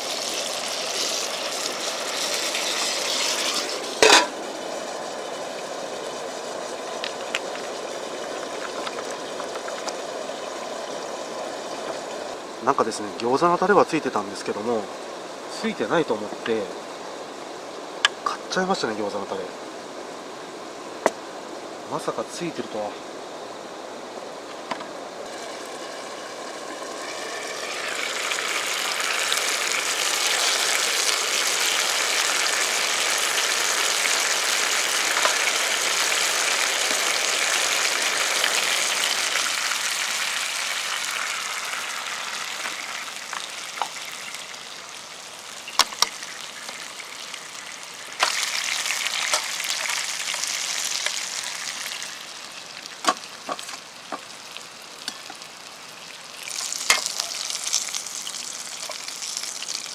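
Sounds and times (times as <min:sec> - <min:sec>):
dumplings sizzling in a pan: 0:00.0 - 0:22.9, 0:24.5 - 0:59.9.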